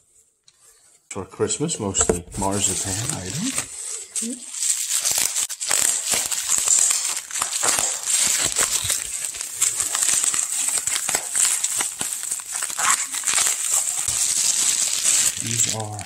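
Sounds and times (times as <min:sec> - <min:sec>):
bubble wrap crackling: 0:02.3 - 0:16.0.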